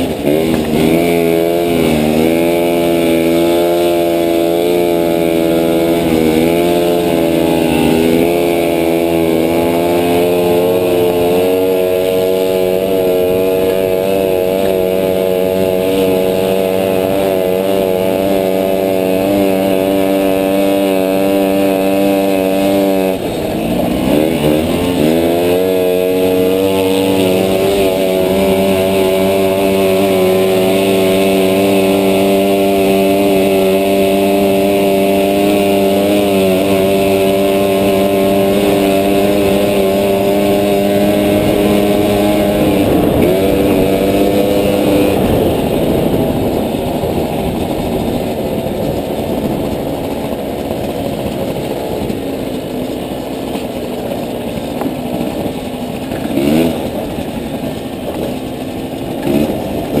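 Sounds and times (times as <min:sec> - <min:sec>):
motorbike engine revving: 0:00.0 - 1:00.0
small motorbike engine running: 0:00.0 - 1:00.0.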